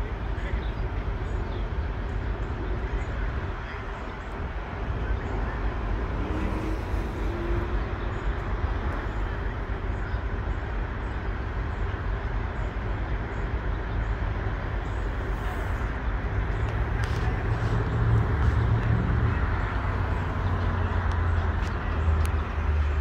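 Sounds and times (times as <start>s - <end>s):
engine and traffic rumble: 0.0s - 23.0s.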